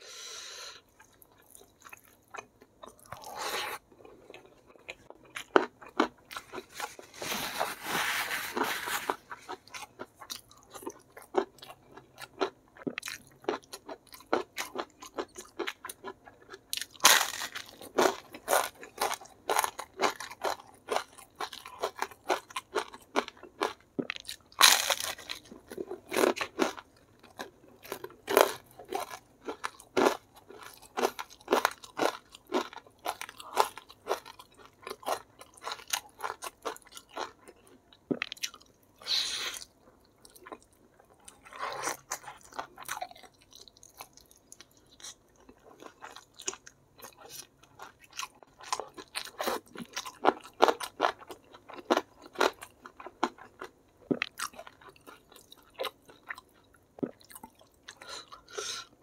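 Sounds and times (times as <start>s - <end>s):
person chewing crispy food: 0.8s - 59.0s.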